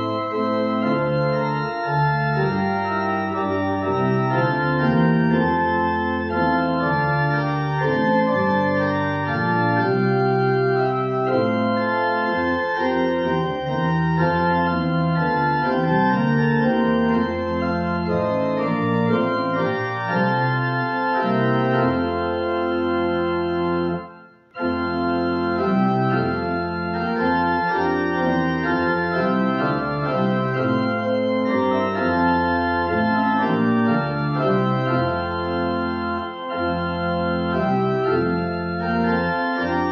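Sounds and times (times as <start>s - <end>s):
organ playing held chords: 0.0s - 39.9s.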